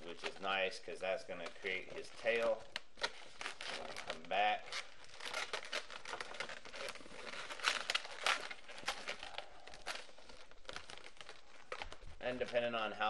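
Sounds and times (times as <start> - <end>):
balloons scraping and crinkling: 0.0 - 13.0.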